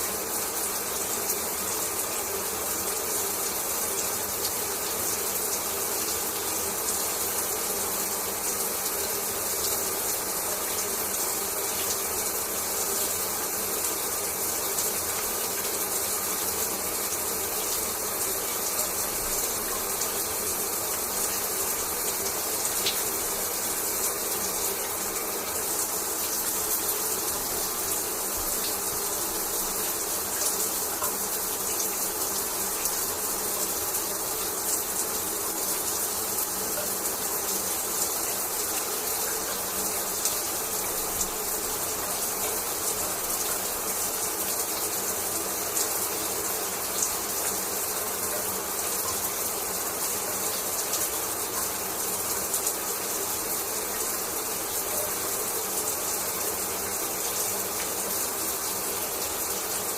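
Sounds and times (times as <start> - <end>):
shower water spraying: 0.0 - 59.9.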